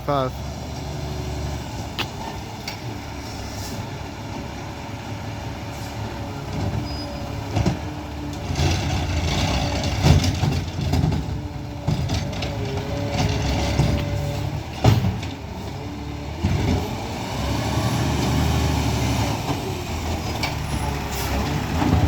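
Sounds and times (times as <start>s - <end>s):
garbage truck engine rumbling: 0.0s - 22.0s.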